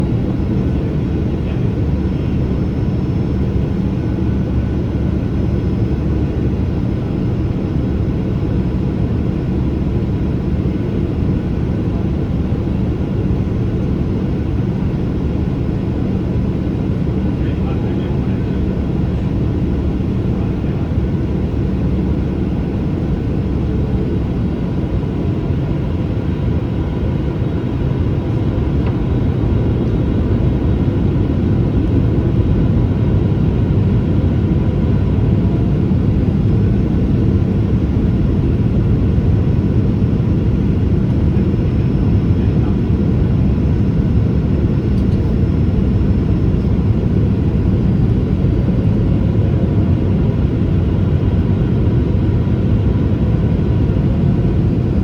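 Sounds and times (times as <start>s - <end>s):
jet engine drone: 0.0s - 55.0s.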